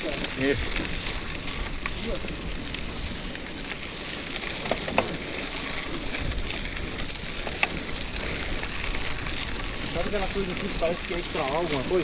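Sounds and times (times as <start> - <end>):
bicycle rolling noise: 0.0 - 12.0
bike clicks and rattles: 0.0 - 12.0.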